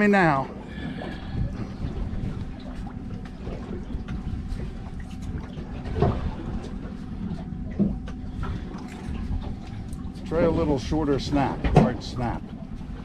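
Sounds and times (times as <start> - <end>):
boat engine humming: 0.0 - 13.0
low rumbling background: 0.0 - 13.0.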